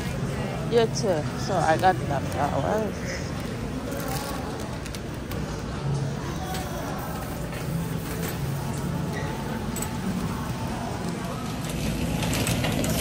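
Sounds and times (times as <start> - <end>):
murmur of shoppers talking: 0.0 - 13.0
shopping cart rattling: 0.8 - 5.4, 6.4 - 13.0.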